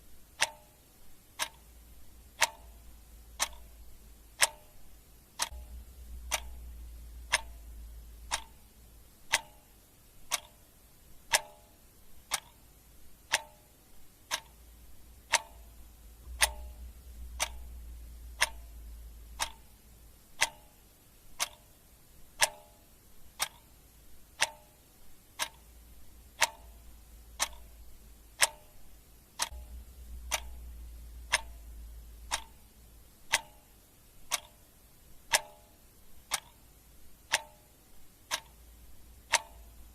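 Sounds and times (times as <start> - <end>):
clock ticking: 0.0 - 39.9
faint low rumble: 0.0 - 39.9.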